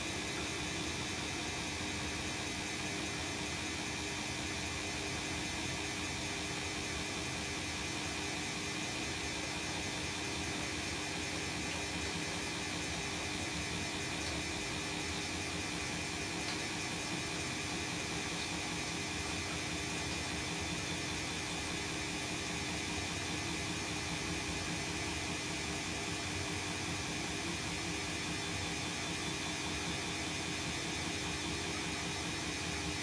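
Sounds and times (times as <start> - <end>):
washing machine hum and whir: 0.0 - 33.0.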